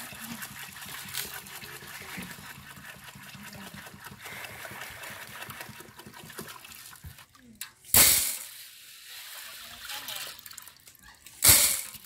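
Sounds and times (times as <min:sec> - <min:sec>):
water pouring into metal pot: 0:00.0 - 0:12.0.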